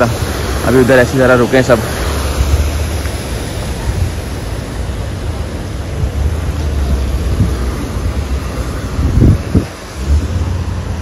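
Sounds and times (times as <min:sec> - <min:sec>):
car driving rumble: 0:00.0 - 0:11.0
wind buffeting: 0:00.0 - 0:11.0.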